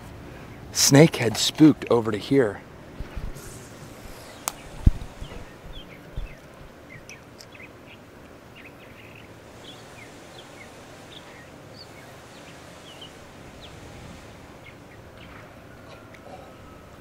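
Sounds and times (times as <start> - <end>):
small birds chirping: 3.0 - 16.6.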